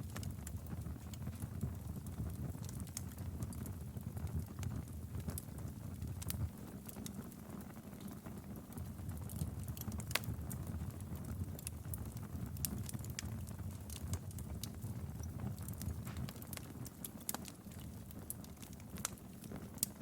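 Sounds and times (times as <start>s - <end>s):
low rumble of flames: 0.0s - 20.0s
wood fire crackling: 0.0s - 20.0s.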